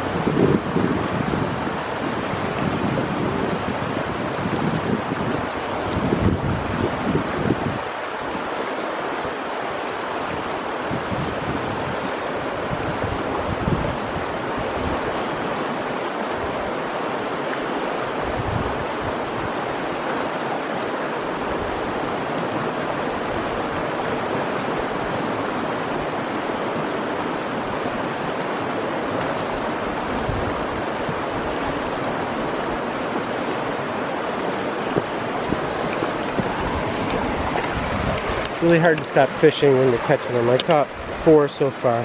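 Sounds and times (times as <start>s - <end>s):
wind on microphone: 0.0s - 41.4s
stream rushing: 0.0s - 42.0s.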